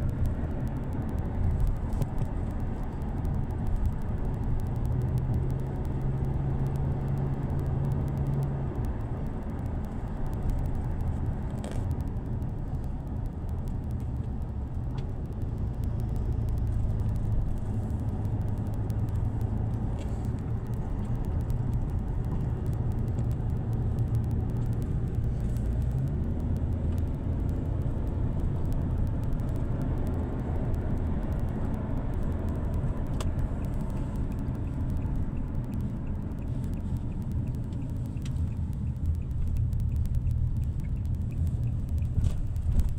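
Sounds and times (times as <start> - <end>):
motor vehicle engine rumble: 0.0 - 42.9
road noise: 0.0 - 42.9.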